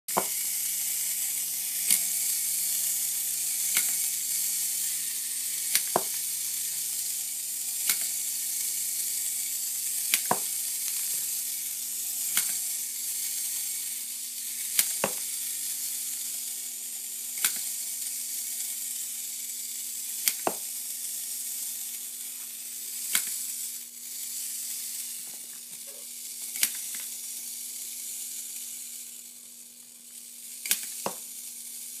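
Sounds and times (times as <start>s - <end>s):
clockwork toy whirring: 0.1s - 32.0s.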